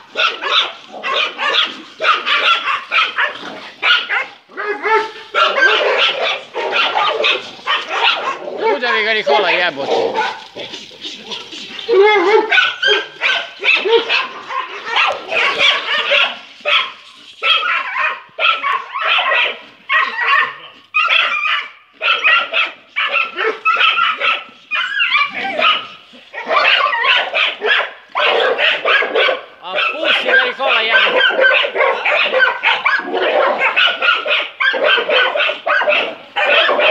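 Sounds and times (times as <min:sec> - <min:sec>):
dog barking: 0:00.0 - 0:36.9.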